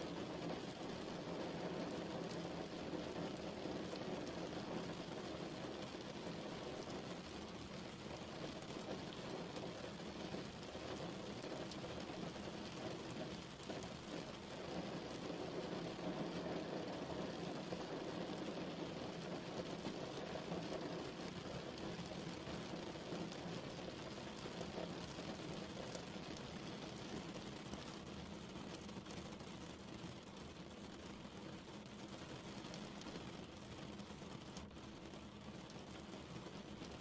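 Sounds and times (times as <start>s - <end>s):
steady rain pattering: 0.0s - 37.0s
raindrop ticks: 0.1s - 37.0s.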